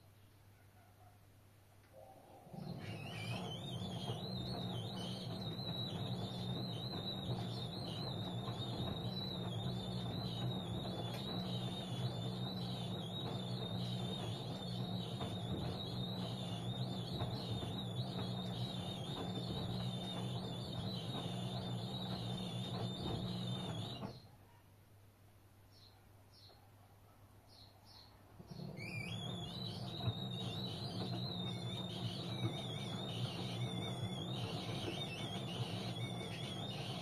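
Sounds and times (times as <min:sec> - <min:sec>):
washing machine drum turning: 0:02.5 - 0:24.2, 0:28.4 - 0:37.0.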